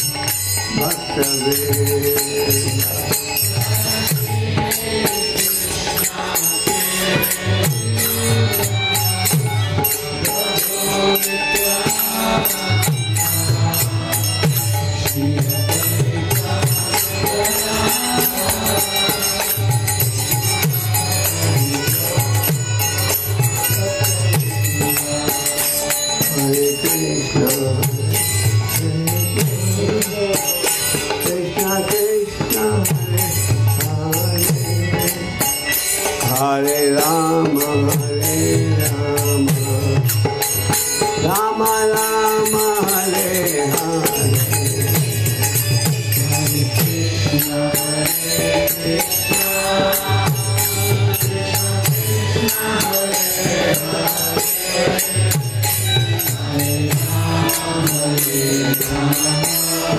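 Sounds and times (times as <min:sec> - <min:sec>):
hand cymbals jingling: 0:00.0 - 0:59.9.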